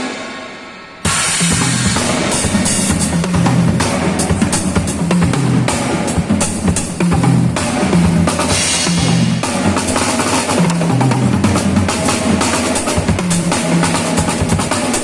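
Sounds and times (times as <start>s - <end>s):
drum kit struck: 0.0s - 15.0s.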